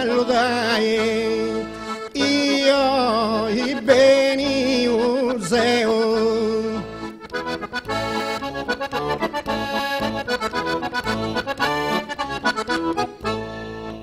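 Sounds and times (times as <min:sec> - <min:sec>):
accordion playing: 0:00.0 - 0:14.0.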